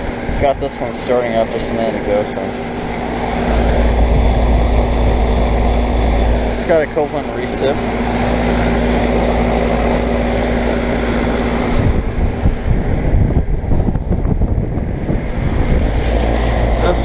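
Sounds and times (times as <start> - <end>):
air conditioner humming: 0.0 - 17.0
wind rumble on microphone: 0.0 - 17.0.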